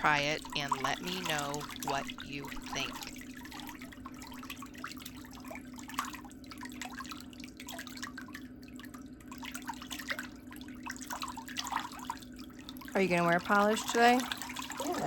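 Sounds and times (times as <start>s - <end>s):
liquid dripping: 0.0s - 15.0s
steady low hum: 0.0s - 15.0s.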